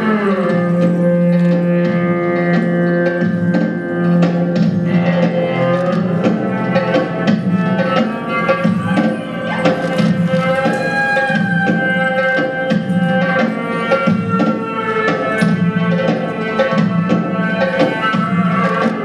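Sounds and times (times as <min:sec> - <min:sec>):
steady held notes: 0:00.0 - 0:19.0
drums beating a quick rhythm: 0:02.6 - 0:19.0.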